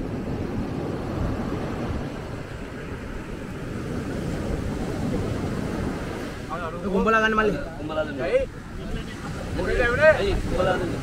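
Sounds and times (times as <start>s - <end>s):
sea surf: 0.0s - 11.0s
wind buffeting microphone: 0.0s - 11.0s.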